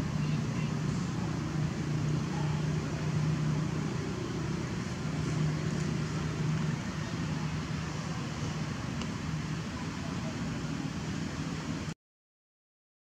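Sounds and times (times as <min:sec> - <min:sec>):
motor droning: 0:00.0 - 0:11.9.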